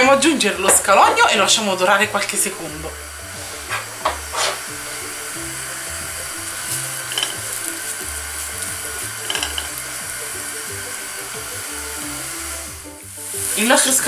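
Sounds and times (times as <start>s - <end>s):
shallot sizzling in hot oil: 0.0s - 14.0s
background music with bass line: 1.4s - 14.0s.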